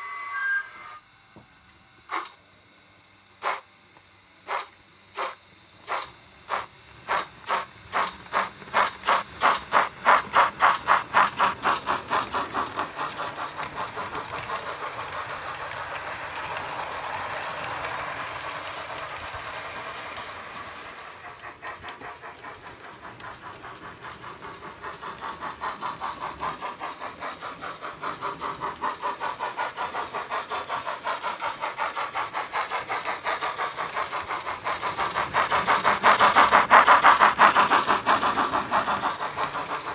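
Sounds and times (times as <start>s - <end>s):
model steam locomotive chuffs: 0.0s - 39.9s.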